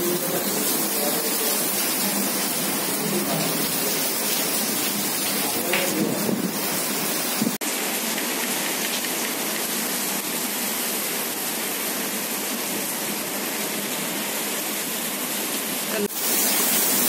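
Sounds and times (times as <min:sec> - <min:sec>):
heavy rain on paving: 0:00.0 - 0:17.0.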